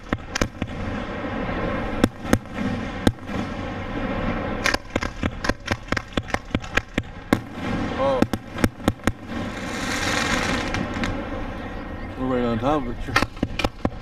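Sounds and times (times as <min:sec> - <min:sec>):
fireworks popping: 0:00.0 - 0:11.3, 0:13.0 - 0:14.0
fireworks bangs: 0:00.0 - 0:14.0.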